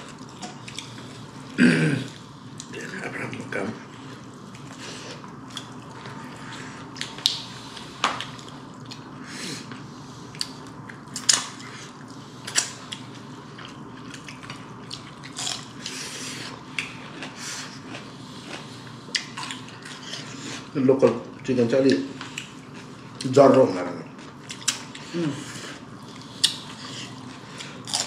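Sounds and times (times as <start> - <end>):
chewing and mouth sounds: 0.0 - 1.5, 2.1 - 23.4, 24.0 - 28.0.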